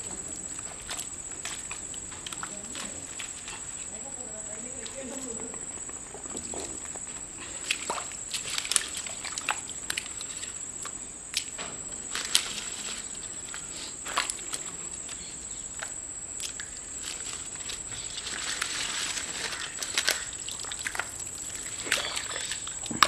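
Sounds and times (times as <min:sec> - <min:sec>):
small splashes: 0:00.0 - 0:05.6, 0:07.4 - 0:23.0
feet squelching in mud: 0:00.0 - 0:23.0.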